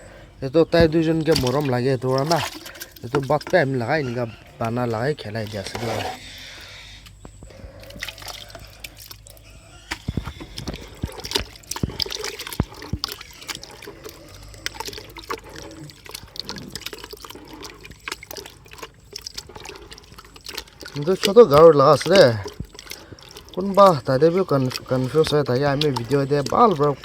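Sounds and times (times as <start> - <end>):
pigs slurping and smacking: 0.0 - 27.0.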